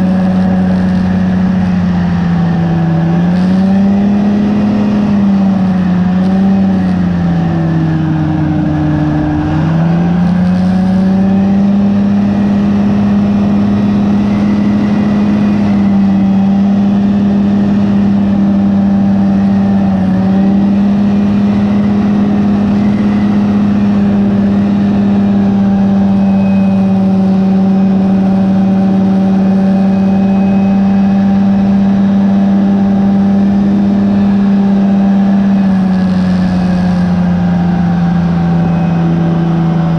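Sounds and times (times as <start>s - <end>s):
two-stroke propeller engine running: 0.0s - 39.9s.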